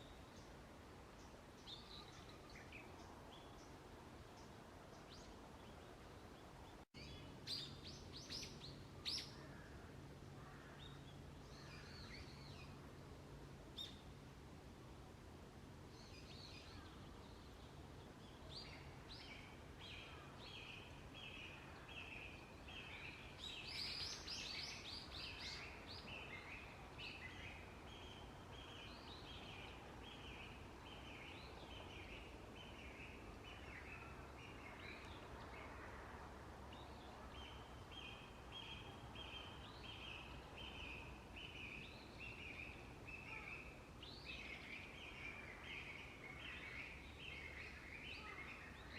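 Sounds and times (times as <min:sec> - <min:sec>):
faint songbirds calling: 0:00.0 - 0:14.4, 0:15.7 - 0:48.9.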